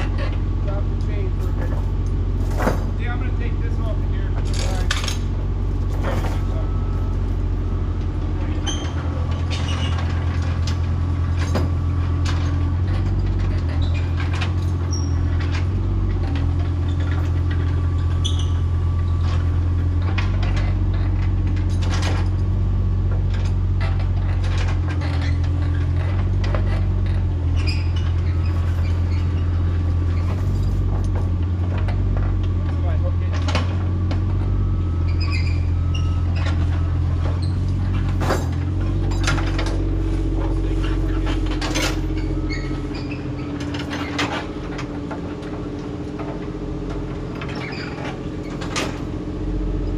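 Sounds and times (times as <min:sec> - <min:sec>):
excavator diesel engine running: 0:00.0 - 0:49.9
metal clanks and squeaks: 0:00.0 - 0:49.9.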